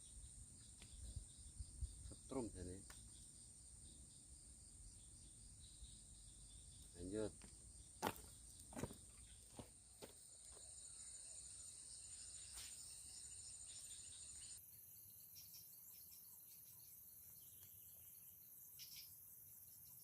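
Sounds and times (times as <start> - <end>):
faint insect chirp: 0.0 - 20.0
high-pitched insect chorus: 0.0 - 20.0.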